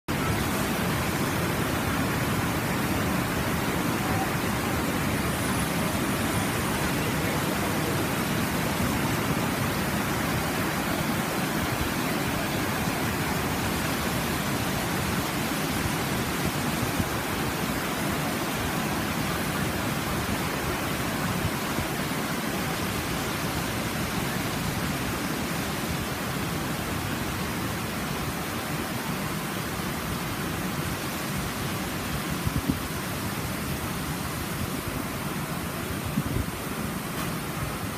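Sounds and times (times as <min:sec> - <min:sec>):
waterfall rushing over rocks: 0:00.1 - 0:37.9.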